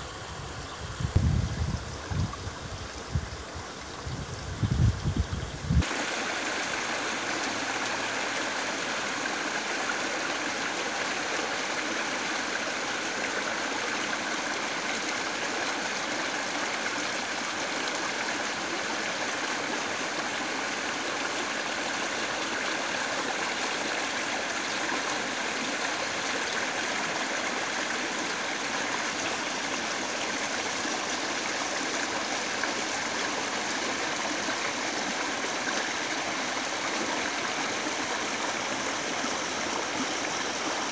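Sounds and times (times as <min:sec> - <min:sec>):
river water flowing over rocks: 0:05.8 - 0:40.9.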